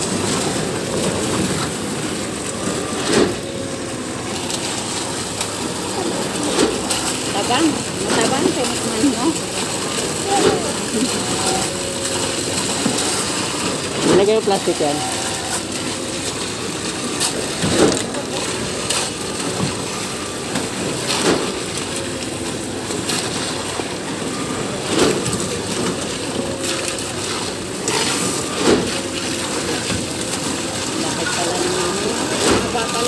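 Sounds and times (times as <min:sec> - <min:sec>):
concrete pump running: 0:00.0 - 0:33.0
wet concrete pouring from hose: 0:00.0 - 0:33.0.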